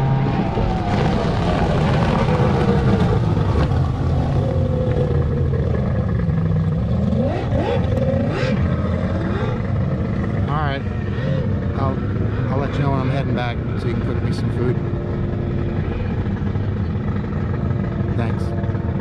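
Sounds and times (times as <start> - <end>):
outboard motor running at speed: 0.0 - 19.0.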